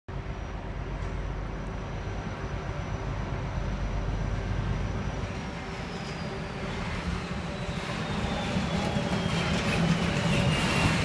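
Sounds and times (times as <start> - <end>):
diesel locomotive engine rumbling: 0.1 - 11.0.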